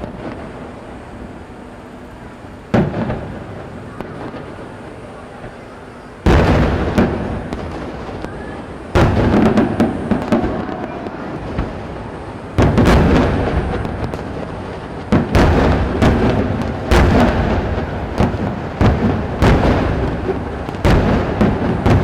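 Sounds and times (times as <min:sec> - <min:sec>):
fireworks booming: 0:00.0 - 0:22.0
fireworks crackling: 0:00.0 - 0:22.0
rolling rumble: 0:00.0 - 0:22.0.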